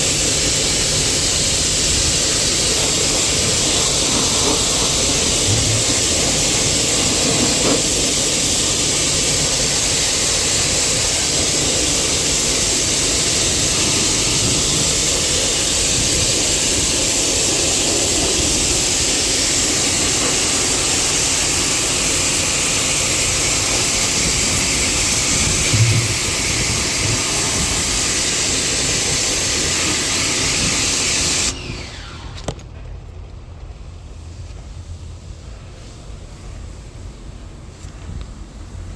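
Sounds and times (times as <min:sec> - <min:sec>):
pressure washer spraying water: 0:00.0 - 0:32.4.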